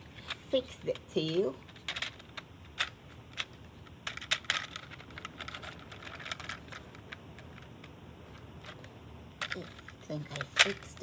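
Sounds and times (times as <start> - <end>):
plastic toy clicks and rattles: 0.1 - 11.0.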